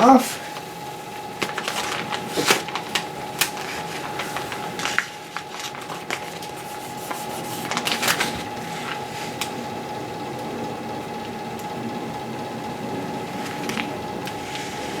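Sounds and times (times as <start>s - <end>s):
film peeling and crinkling: 0.0s - 10.5s, 13.1s - 15.0s.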